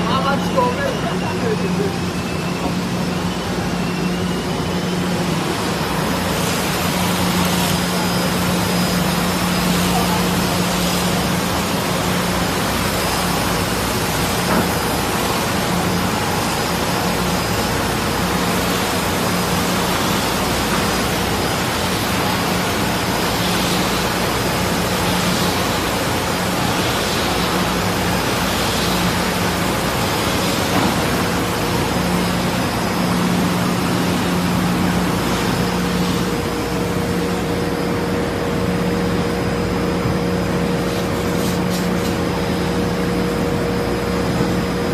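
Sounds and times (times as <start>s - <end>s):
sanding machine hiss: 0.1s - 38.8s, 39.5s - 43.3s.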